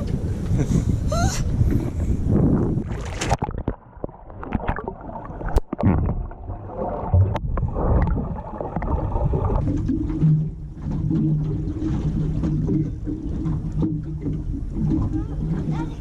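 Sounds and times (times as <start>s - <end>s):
water noise: 0.0s - 16.0s.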